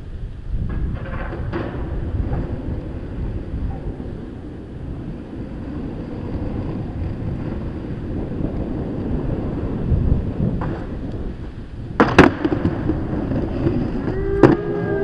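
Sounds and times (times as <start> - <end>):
skateboard wheels rolling on stone: 0.0 - 15.0.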